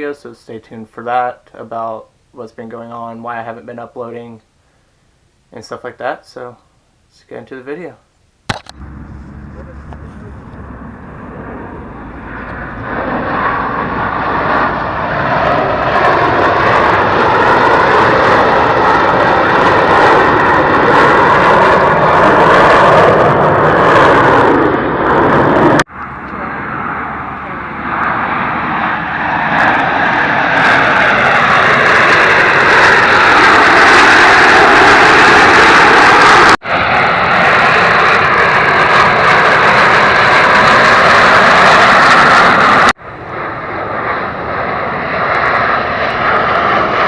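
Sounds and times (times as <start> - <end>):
aircraft engine roar: 8.5 - 47.0.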